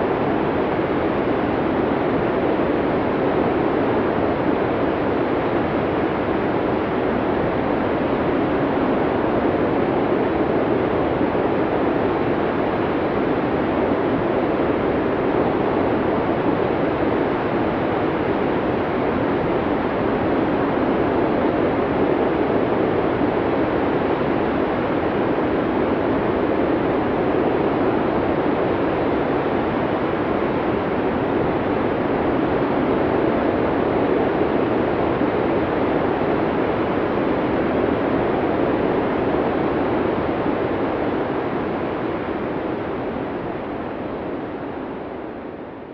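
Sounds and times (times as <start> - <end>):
rushing blizzard wind: 0.0 - 45.9.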